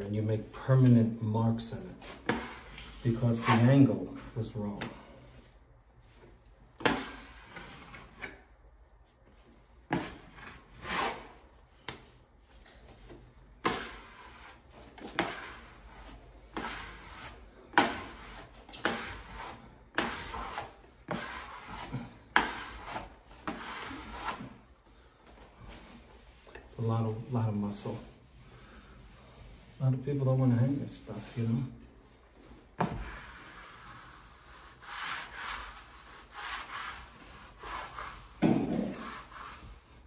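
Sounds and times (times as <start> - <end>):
smoothing tool swishing on wallpaper: 2.0 - 3.8, 5.2 - 24.7, 25.6 - 40.0.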